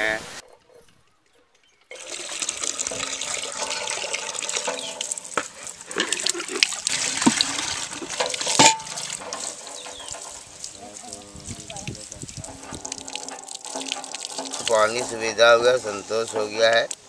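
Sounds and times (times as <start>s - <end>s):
small knocks and clanks: 0.6s - 17.0s
water splashing into buckets: 1.9s - 17.0s.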